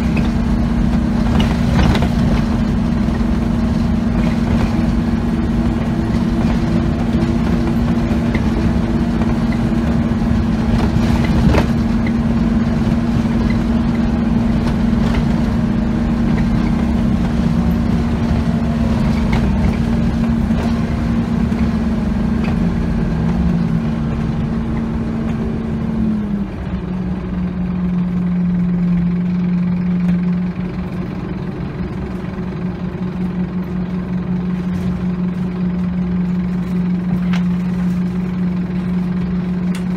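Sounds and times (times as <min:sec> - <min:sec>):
bus body rattling over bumps: 0:00.0 - 0:39.9
bus engine drone: 0:00.0 - 0:39.9.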